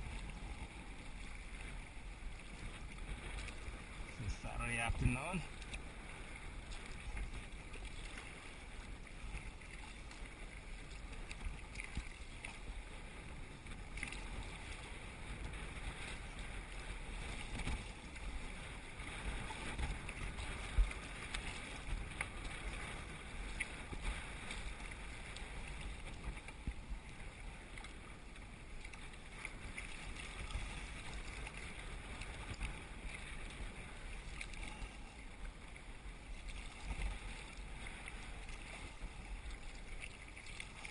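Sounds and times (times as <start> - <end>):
paddle blades dipping: 0.0 - 40.9
waves slapping against hull: 0.0 - 40.9
wind buffeting microphone: 0.0 - 40.9.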